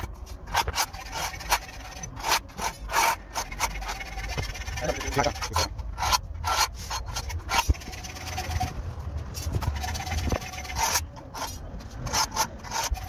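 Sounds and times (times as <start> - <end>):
pencil scraping on concrete wall: 0.0 - 13.0.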